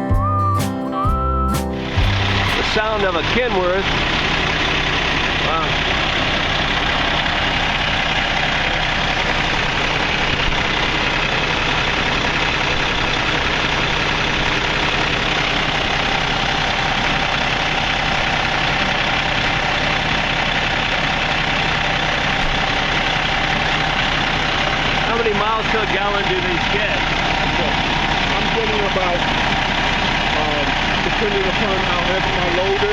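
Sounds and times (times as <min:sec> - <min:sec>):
truck diesel engine idling: 0:00.0 - 0:32.9.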